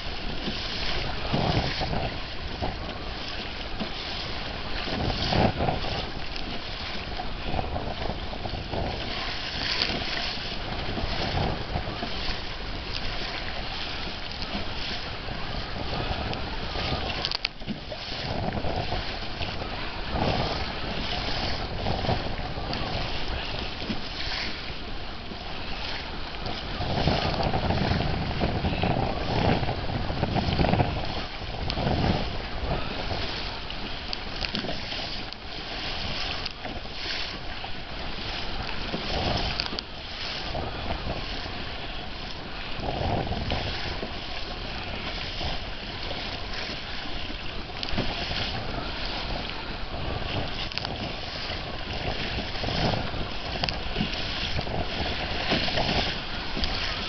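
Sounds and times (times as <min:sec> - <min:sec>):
waves slapping against hull: 0:00.0 - 0:57.0
wind buffeting microphone: 0:00.0 - 0:57.0.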